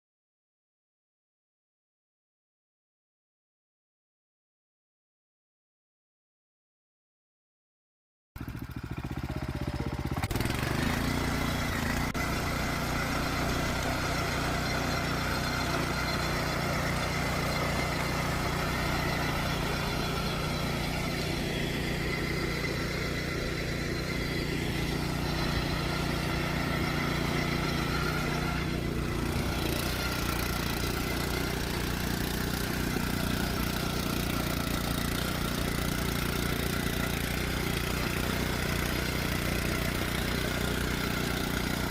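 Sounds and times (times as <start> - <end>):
cultivator engine running: 8.4 - 41.9.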